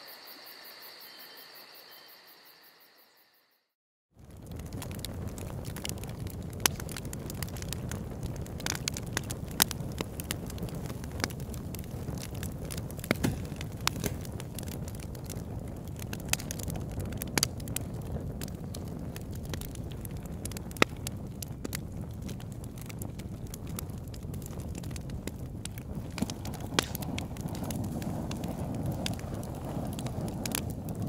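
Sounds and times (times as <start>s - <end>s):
campfire crackling and popping: 4.2s - 31.0s.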